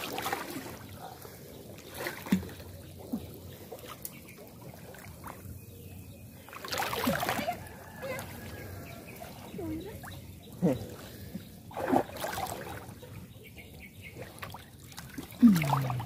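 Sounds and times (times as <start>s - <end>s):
water splashing from wading: 0.0s - 5.5s, 6.4s - 13.2s, 14.0s - 16.0s.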